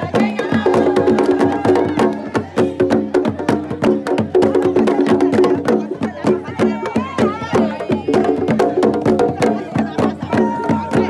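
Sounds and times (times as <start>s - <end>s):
fast sharp percussion strikes: 0.0s - 11.0s.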